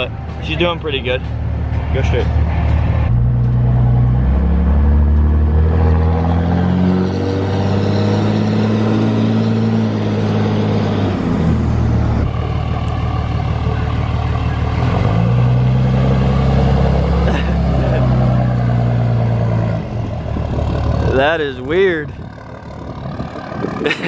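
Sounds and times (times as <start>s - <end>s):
diesel engine accelerating: 0.0s - 24.0s.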